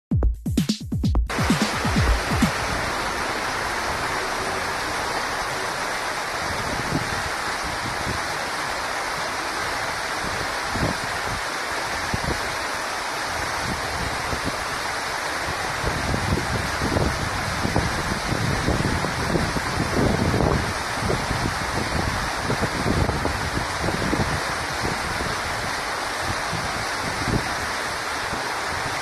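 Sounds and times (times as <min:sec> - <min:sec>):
waterfall roaring: 0:01.3 - 0:29.0
wind rumble on microphone: 0:01.8 - 0:05.3, 0:05.9 - 0:29.0.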